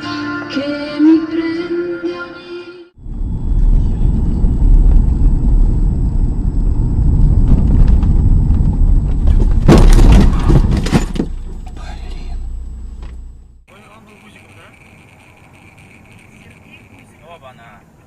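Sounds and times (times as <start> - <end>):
road and engine rumble: 3.0 - 18.0.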